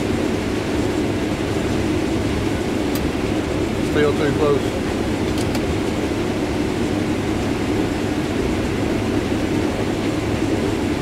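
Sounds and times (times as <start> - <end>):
combine engine and machinery hum: 0.0 - 11.0.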